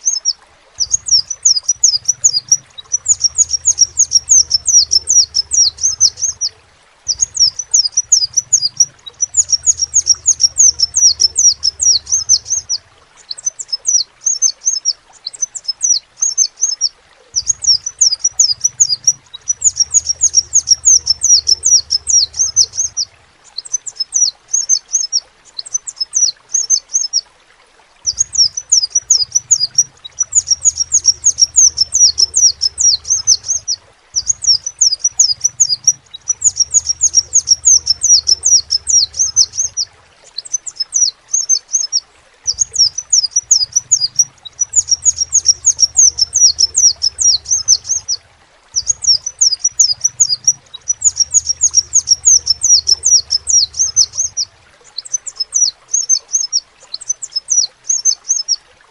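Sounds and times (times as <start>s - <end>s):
bird twittering: 0.0s - 27.2s, 28.0s - 58.6s.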